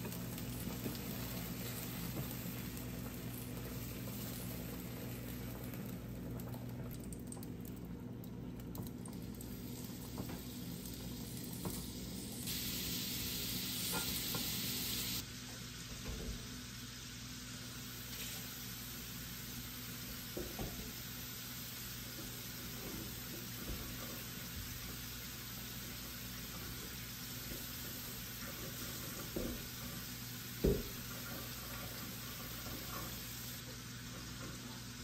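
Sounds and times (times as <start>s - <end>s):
meatballs sizzling in a pan: 0.0s - 6.8s, 9.0s - 35.0s.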